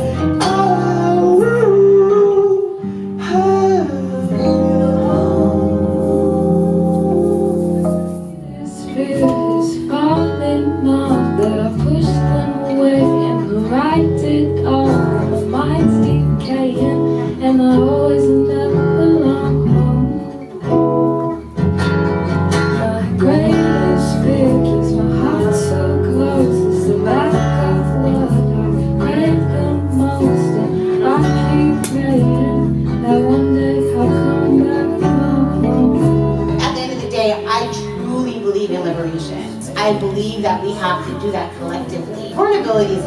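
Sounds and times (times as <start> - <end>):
acoustic guitar strummed and plucked: 0.0 - 43.0
low bass line: 3.2 - 38.2.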